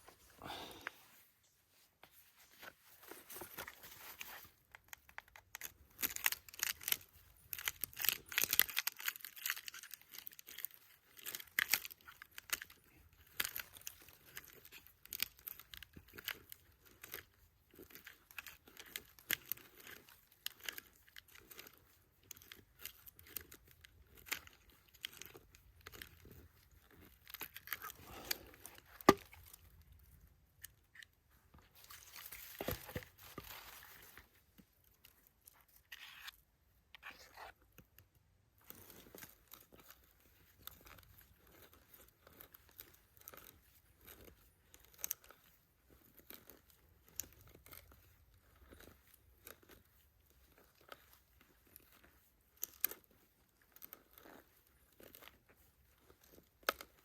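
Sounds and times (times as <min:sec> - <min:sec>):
crinkling and tearing handling noises: 0:00.0 - 0:57.0
sharp clicks and crackles: 0:03.4 - 0:55.4.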